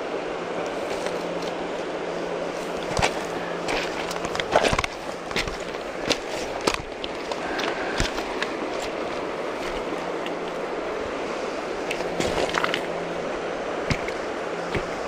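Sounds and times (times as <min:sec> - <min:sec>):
river rushing over rocks: 0:01.2 - 0:15.0.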